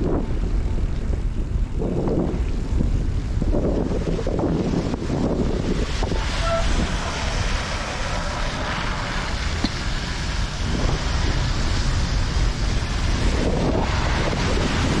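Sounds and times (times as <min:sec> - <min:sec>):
road traffic on wet street: 0:00.0 - 0:15.0
wind rumbling on microphone: 0:00.0 - 0:15.0.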